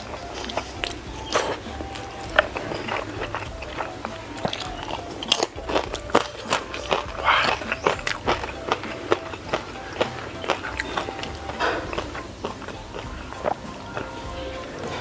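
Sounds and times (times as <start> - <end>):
crunchy bites: 0.0 - 15.0
wet mouth clicks: 0.0 - 15.0.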